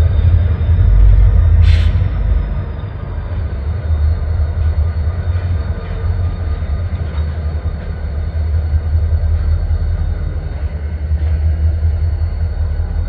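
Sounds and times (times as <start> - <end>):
diesel locomotive engines rumbling: 0.0 - 13.0.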